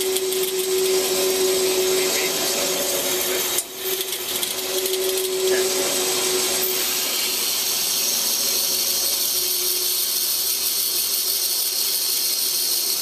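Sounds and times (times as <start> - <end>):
bandsaw cutting wood: 0.0 - 13.0.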